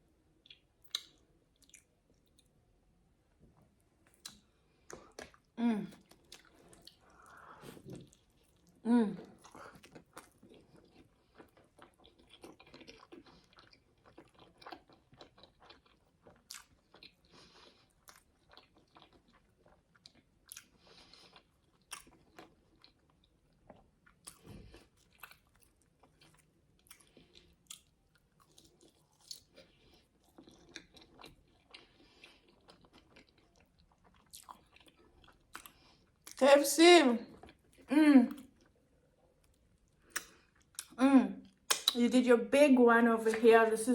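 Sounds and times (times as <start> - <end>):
chewing and crunching food: 0.3 - 2.6, 3.3 - 36.4, 37.2 - 42.0.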